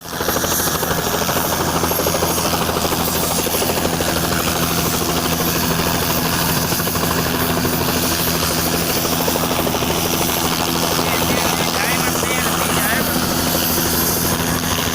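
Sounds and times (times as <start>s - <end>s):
helicopter engine tone: 0.0s - 14.9s
helicopter rotor chop: 0.0s - 14.9s.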